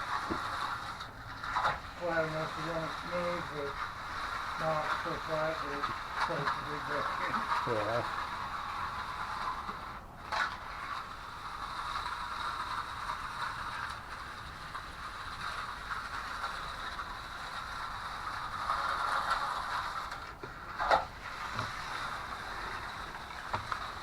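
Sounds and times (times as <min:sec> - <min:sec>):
trowel scraping wet concrete: 0:00.0 - 0:24.0.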